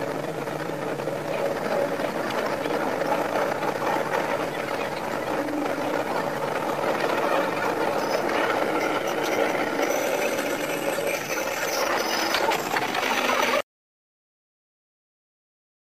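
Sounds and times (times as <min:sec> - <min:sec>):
railcar running with rattle: 0:00.0 - 0:13.6.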